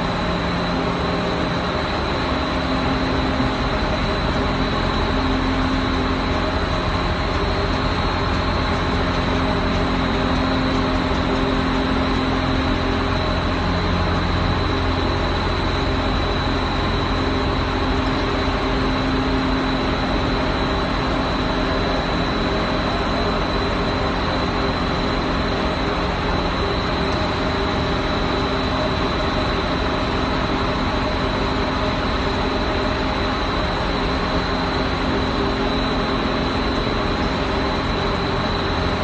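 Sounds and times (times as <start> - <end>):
dense machine noise: 0.0 - 39.0
high steady whine: 0.0 - 39.0.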